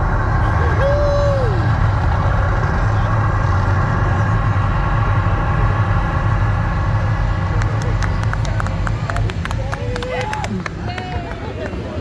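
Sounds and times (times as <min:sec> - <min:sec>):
low mechanical rumble and hum: 0:00.0 - 0:12.0.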